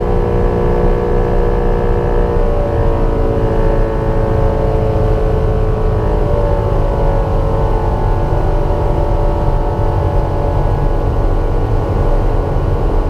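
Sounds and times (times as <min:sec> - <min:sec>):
light aircraft engine and propeller: 0:00.0 - 0:13.0
rough low grinding rumble: 0:00.0 - 0:13.0.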